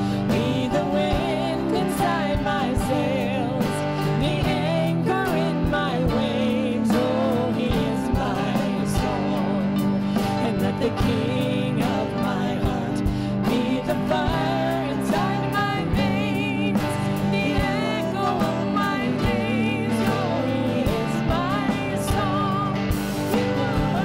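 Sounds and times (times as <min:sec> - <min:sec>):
worship band music: 0:00.0 - 0:24.0.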